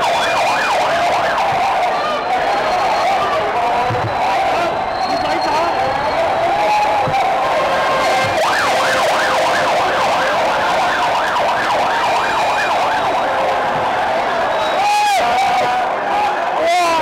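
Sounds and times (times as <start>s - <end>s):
siren yelping: 0.0s - 16.0s
street noise: 0.0s - 17.0s.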